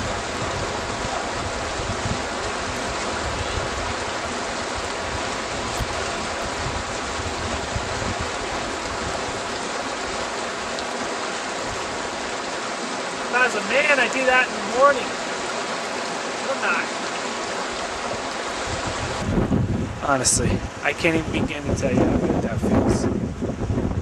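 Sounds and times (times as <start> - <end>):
creek rushing over rocks: 0.0 - 24.0.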